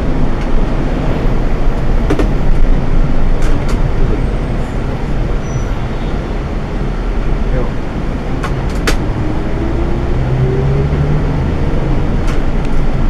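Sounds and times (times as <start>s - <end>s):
coach engine and road noise: 0.0s - 13.0s.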